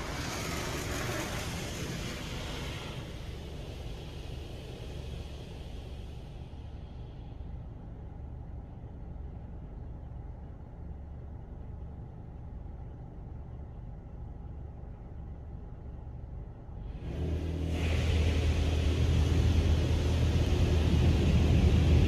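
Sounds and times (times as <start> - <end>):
muffled car wash rumble: 0.0 - 22.0.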